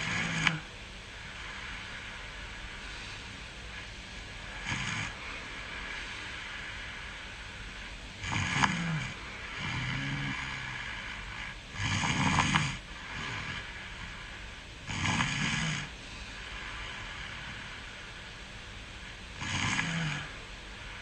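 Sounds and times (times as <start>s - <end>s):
person snoring: 0.0s - 3.0s, 3.7s - 18.2s, 19.0s - 21.0s
soft breath: 0.0s - 21.0s
steady hiss: 0.0s - 21.0s.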